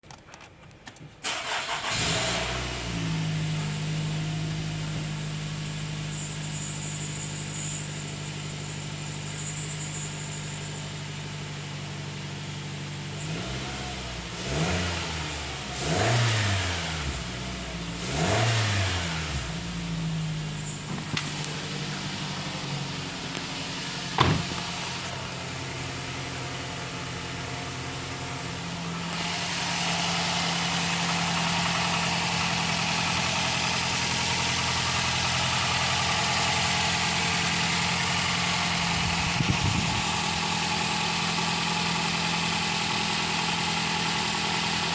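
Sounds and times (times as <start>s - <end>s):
car engine idling and revving: 1.2s - 44.9s.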